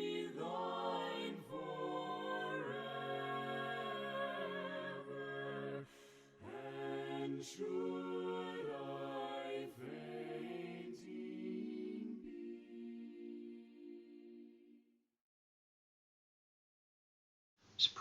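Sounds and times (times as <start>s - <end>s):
voices singing a cappella hymn: 0.0s - 14.8s.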